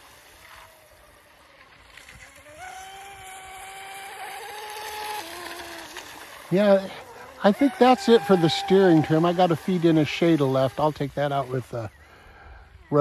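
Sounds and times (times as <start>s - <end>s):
electric boat motor whining: 0.0s - 13.0s.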